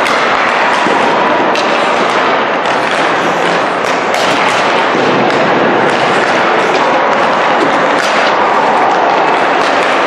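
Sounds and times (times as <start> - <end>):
hockey sticks cracking pucks: 0.0 - 10.0
loud rink noise: 0.0 - 10.0
pucks hitting boards: 0.0 - 10.0.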